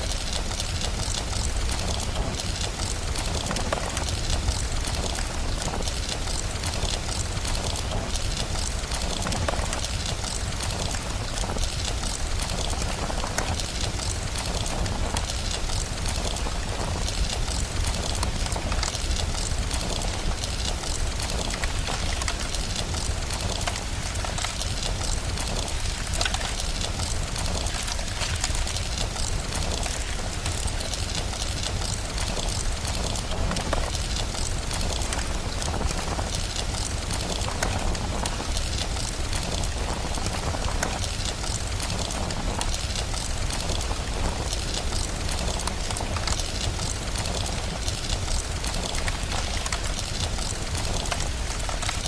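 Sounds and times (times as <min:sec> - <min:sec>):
fire crackling: 0:00.0 - 0:52.0
steady rain: 0:00.0 - 0:52.0.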